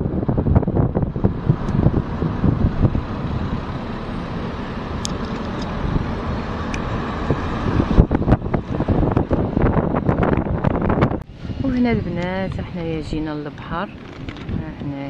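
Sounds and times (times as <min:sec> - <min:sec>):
car road and engine noise: 0:00.0 - 0:15.0
wind buffeting microphone: 0:00.0 - 0:15.0.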